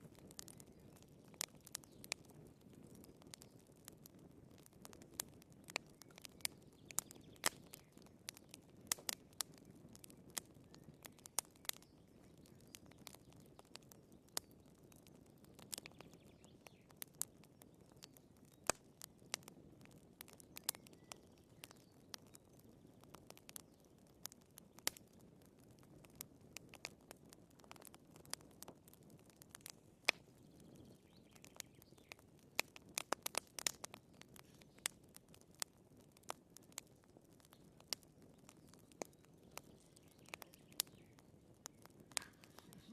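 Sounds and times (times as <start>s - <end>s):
firewood crackling and popping: 0.0s - 42.9s
low rumble of flames: 0.0s - 42.9s.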